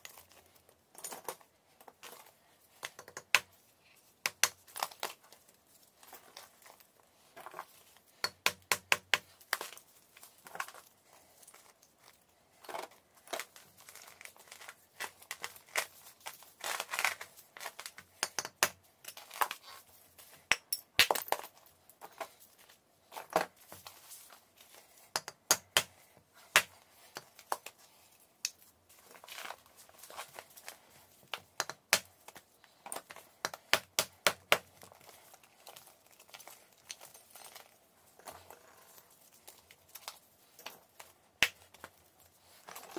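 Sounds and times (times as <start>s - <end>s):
chalk cracking and crumbling: 0.0s - 22.8s, 23.5s - 42.9s.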